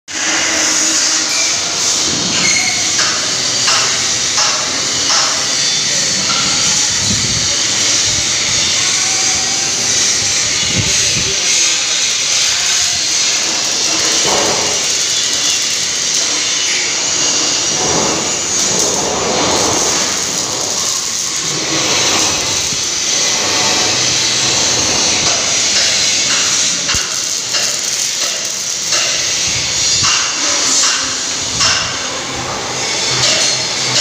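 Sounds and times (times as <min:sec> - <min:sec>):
workshop background hiss: 0:00.1 - 0:34.0.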